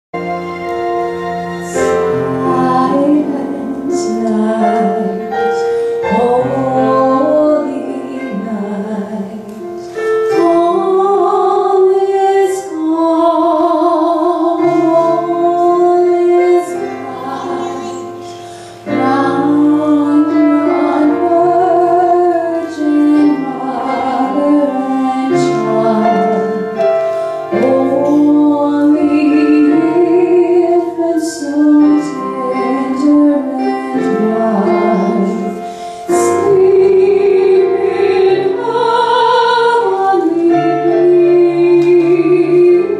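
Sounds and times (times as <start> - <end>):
instrumental accompaniment: 0.1 - 42.9
woman singing with vibrato: 1.4 - 42.9.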